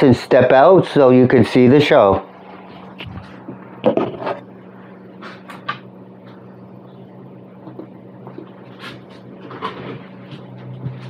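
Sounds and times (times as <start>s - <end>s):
electrical hum of computer equipment: 0.0s - 11.0s.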